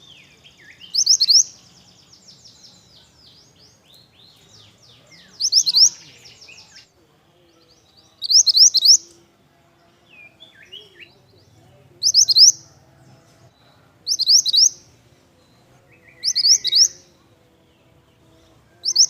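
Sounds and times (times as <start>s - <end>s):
songbird singing sharp rising notes: 0.0s - 12.8s, 13.5s - 19.0s.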